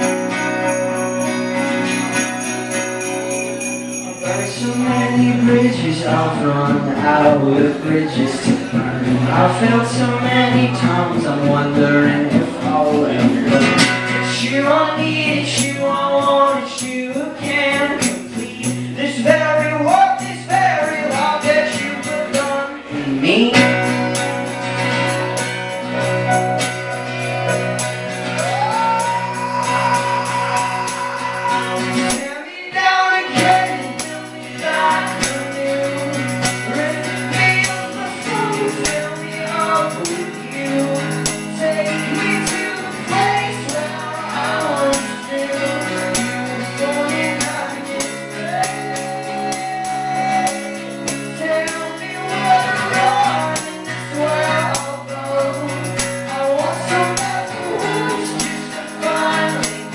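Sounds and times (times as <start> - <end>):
tambourine rhythm: 0.0 - 6.9, 13.0 - 22.6, 23.2 - 59.9
person singing: 0.0 - 59.9
strummed acoustic guitar: 0.0 - 59.9.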